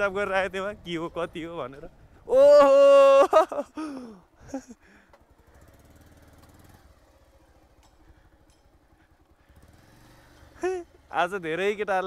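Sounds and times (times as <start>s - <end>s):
motorcycle engine at low revs: 0.0s - 2.3s, 3.8s - 12.0s.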